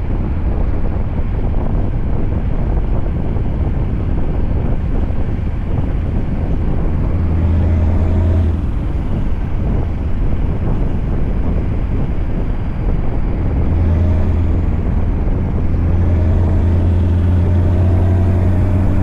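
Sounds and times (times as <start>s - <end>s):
road noise: 0.0s - 19.0s
truck engine drone: 0.0s - 19.0s
wind noise: 0.0s - 19.0s.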